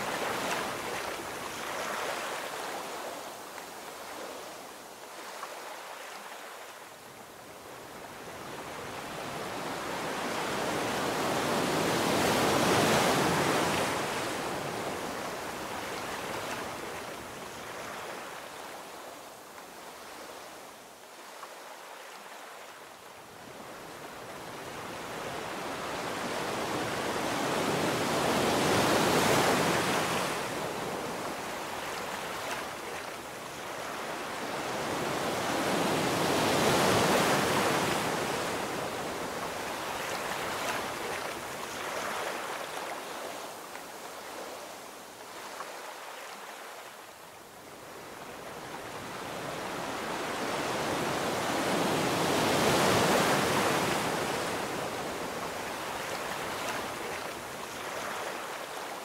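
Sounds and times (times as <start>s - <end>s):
sea waves breaking on beach: 0.0s - 7.1s, 7.7s - 59.0s.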